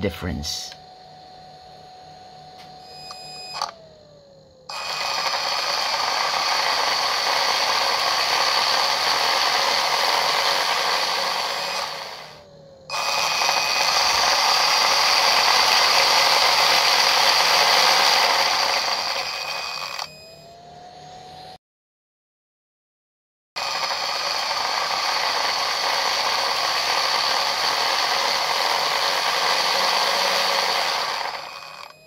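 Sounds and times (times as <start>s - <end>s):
toy tank motors whining: 2.6s - 21.5s, 23.6s - 32.0s.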